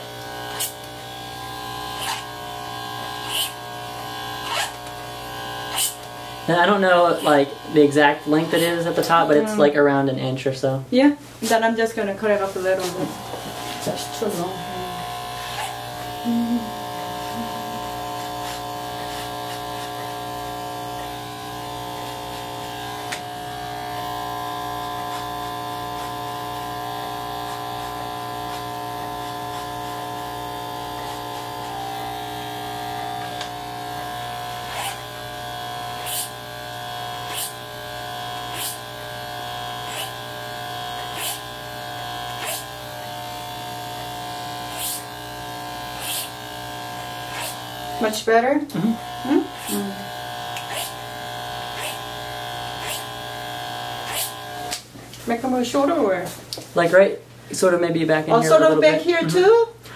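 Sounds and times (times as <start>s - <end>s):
electric hair clippers buzzing: 0.0s - 10.2s, 11.5s - 56.6s, 57.6s - 59.9s.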